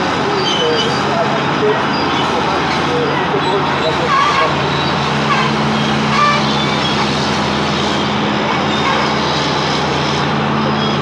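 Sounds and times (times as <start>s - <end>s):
heavy diesel engines under load: 0.0s - 11.0s.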